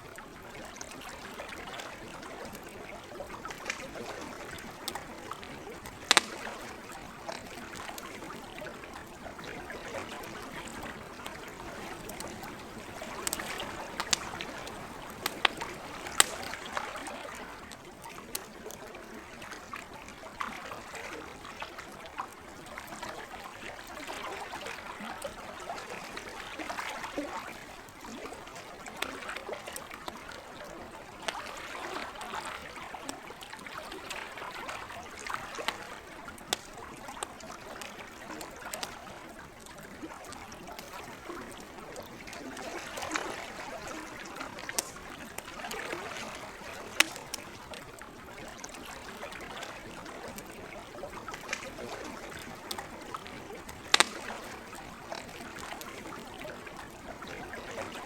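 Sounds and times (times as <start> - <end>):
gentle lake water: 0.0 - 58.0
campfire crackling: 0.2 - 58.0.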